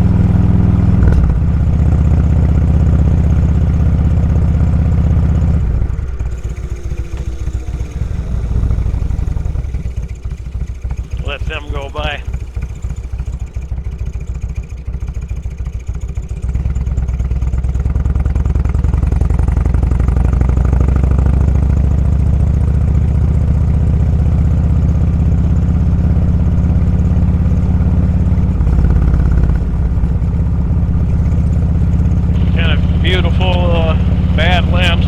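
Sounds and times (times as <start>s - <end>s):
motorcycle engine pulling away: 0.0s - 35.0s.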